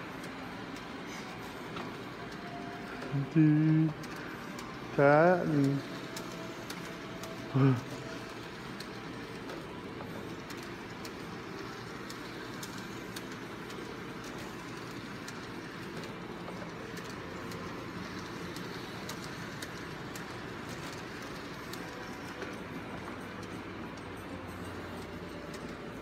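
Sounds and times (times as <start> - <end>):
model train humming: 0.0 - 26.0.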